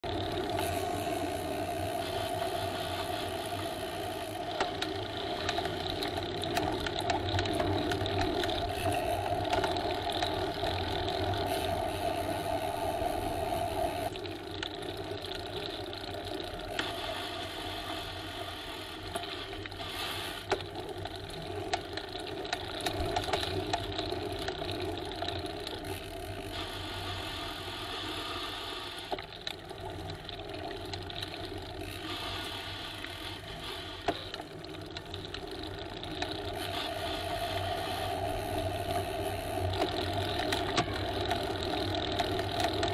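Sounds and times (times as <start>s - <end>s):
bicycle hum: 0.0s - 42.9s
bicycle rattles and clicks: 0.0s - 42.9s.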